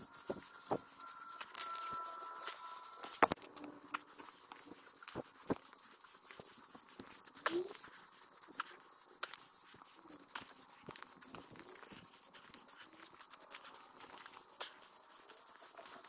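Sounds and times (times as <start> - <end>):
spray paint can hissing: 0.0 - 3.4, 4.0 - 16.0.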